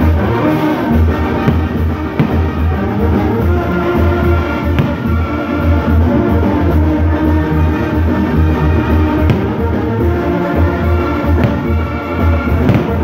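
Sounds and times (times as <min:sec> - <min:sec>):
loud music with deep bass: 0:00.0 - 0:13.0.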